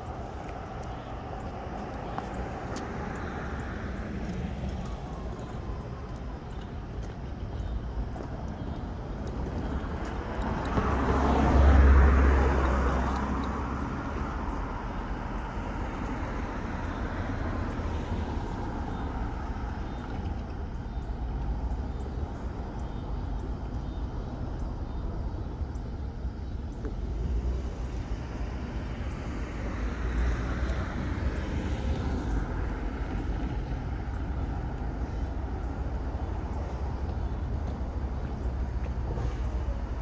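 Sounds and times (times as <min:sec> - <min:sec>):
low hum of traffic: 0:00.0 - 0:40.0
vehicle passing with deep rumble: 0:00.0 - 0:40.0.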